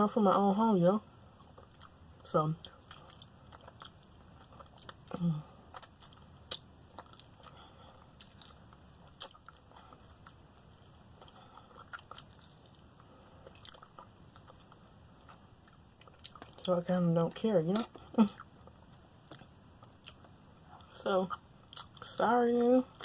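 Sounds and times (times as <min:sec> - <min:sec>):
chewing crunchy fried food: 0:01.3 - 0:23.0.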